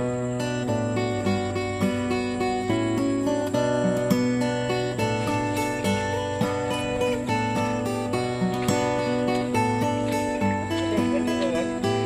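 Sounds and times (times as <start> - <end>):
plucked instrumental guitar music: 0.0 - 12.0.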